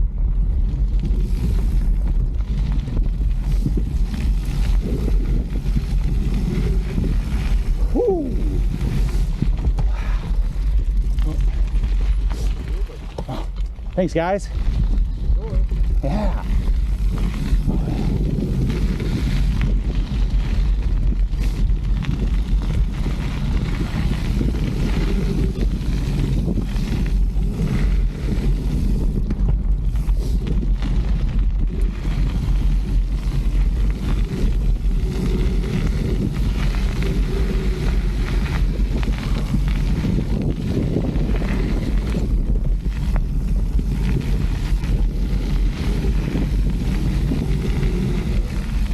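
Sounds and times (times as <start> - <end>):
bike tyres rumbling on dirt: 0.0 - 48.9
wind buffeting microphone: 0.0 - 48.9.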